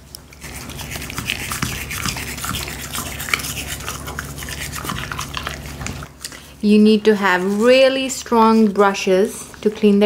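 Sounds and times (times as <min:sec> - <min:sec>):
toothbrush scrubbing teeth: 0:00.0 - 0:09.2.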